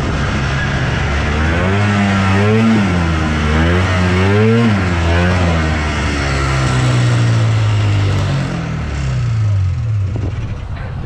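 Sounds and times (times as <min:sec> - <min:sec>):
snowmobile two-stroke engine running: 0:00.0 - 0:11.0.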